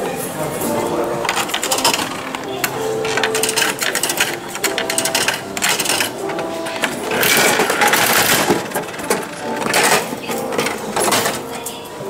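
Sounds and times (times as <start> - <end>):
coins clicking into slot: 0.5 - 12.0
vending machine handle rattle: 0.6 - 11.7.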